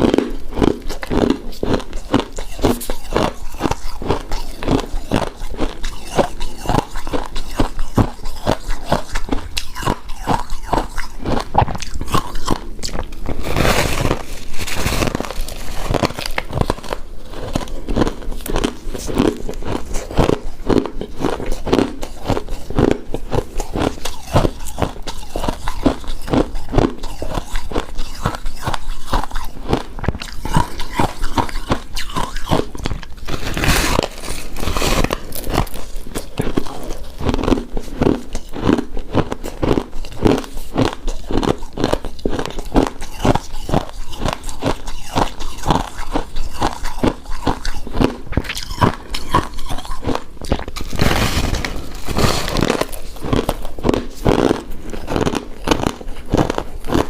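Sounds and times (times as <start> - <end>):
chewing rice cake: 0.0 - 57.0.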